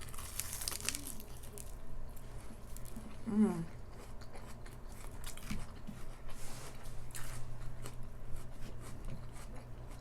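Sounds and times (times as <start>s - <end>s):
crunchy chewing: 0.0s - 10.0s
low steady hum: 0.0s - 10.0s.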